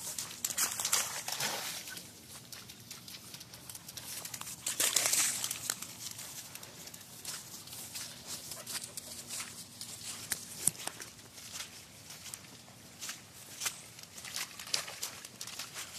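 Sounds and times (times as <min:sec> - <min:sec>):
footsteps through wet grass: 0:00.0 - 0:15.9.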